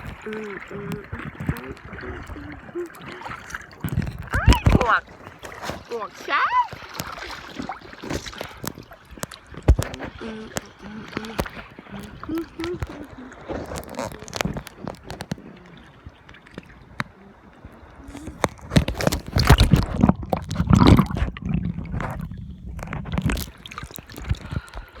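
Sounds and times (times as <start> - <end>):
sea water sloshing and splashing: 0.0 - 25.0.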